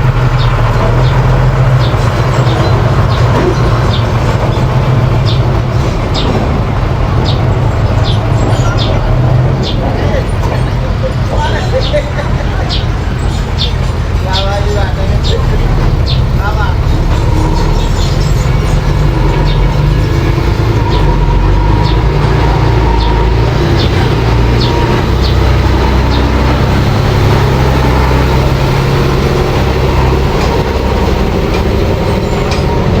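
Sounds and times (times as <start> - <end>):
bulldozer engine running: 0.0 - 33.0.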